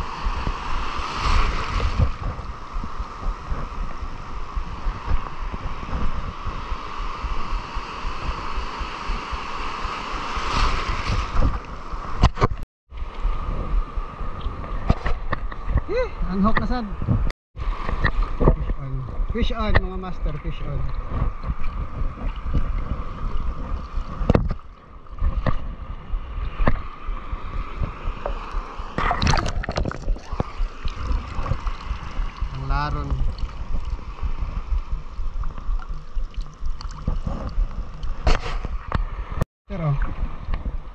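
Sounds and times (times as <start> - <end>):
sea water rushing and splashing: 0.0 - 14.9, 19.5 - 40.9
wind buffeting microphone: 0.0 - 40.9.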